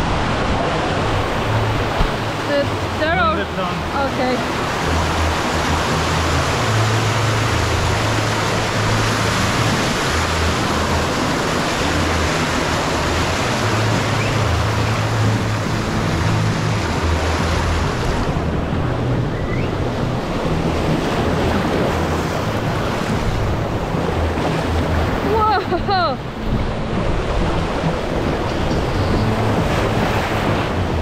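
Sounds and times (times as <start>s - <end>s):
whitewater rushing and splashing: 0.0s - 31.0s.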